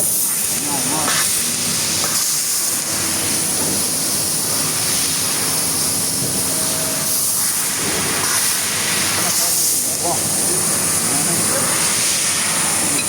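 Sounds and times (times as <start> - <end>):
laser cutter hissing: 0.0 - 13.0.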